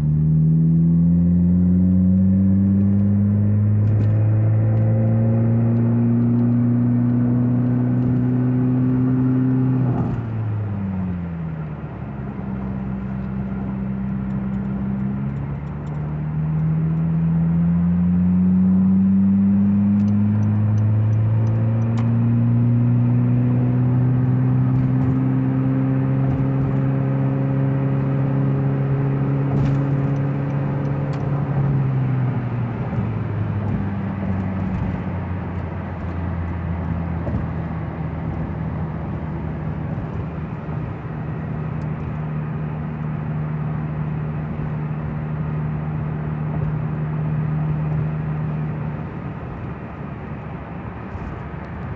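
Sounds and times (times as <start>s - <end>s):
car engine drone: 0.0s - 51.9s
tyre and road noise: 0.0s - 51.9s.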